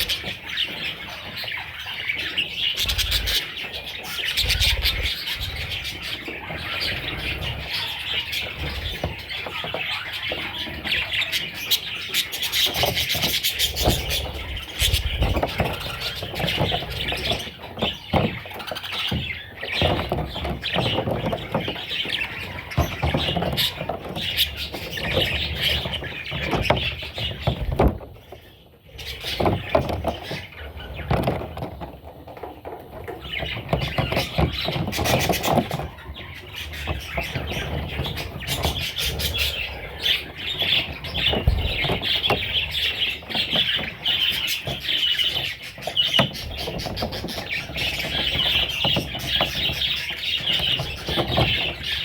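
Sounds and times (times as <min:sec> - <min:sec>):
bird chicks chirping and squawking: 0:00.0 - 0:52.0.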